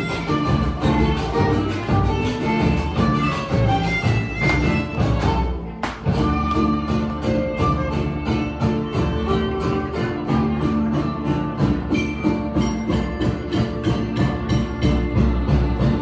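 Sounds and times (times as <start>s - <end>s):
folk dance music with violins and guitars: 0.0s - 16.0s.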